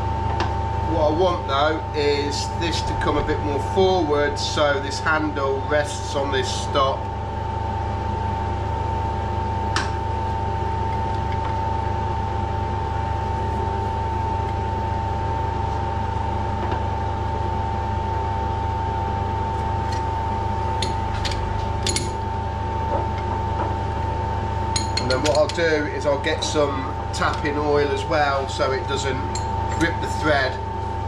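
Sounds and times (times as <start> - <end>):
machine hum with whine: 0.0 - 31.0.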